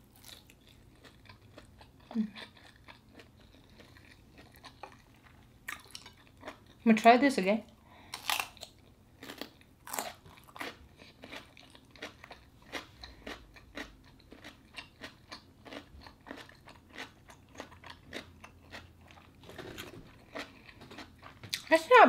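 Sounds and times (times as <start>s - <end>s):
person chewing crunchy cucumber: 0.0s - 6.8s, 8.0s - 21.7s.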